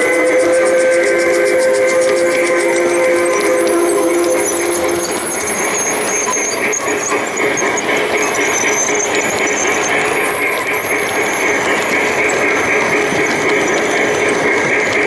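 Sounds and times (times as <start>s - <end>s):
model train wheels rolling on track: 0.0s - 15.0s.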